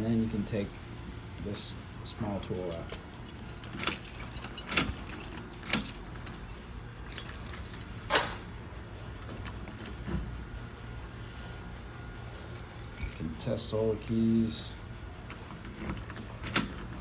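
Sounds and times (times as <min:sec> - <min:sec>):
keys jangling: 0:01.5 - 0:08.5, 0:09.2 - 0:17.0.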